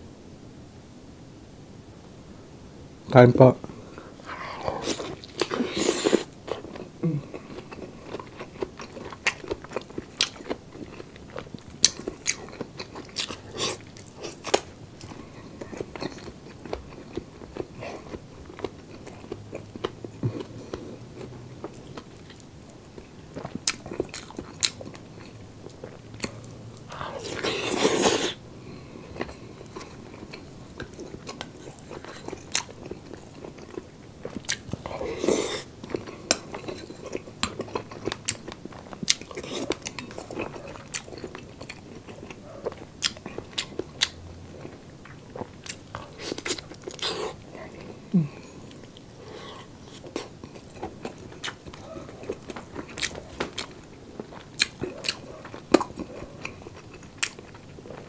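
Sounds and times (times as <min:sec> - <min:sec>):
chewing and crunching: 0:04.0 - 0:58.0.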